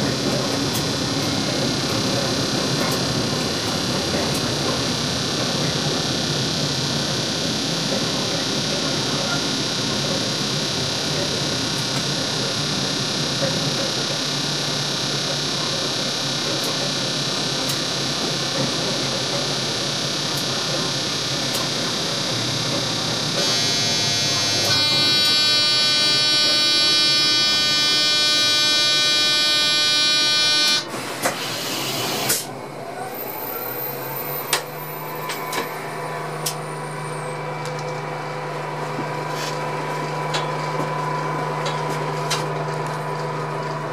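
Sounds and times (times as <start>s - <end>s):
loud buzzing tone: 0.0s - 39.6s
train running noise: 0.0s - 43.9s.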